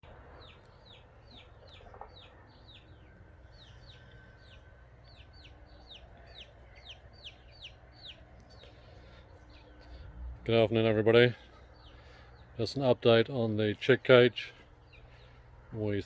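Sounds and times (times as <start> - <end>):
chicks peeping: 0.0 - 12.9, 14.5 - 15.8.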